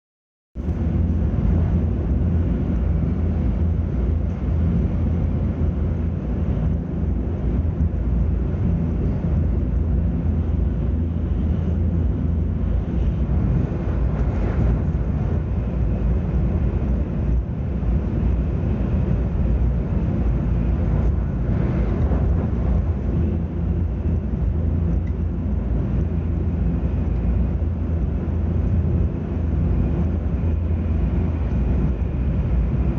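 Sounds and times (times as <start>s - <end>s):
train rumbling at speed: 0.6s - 32.9s.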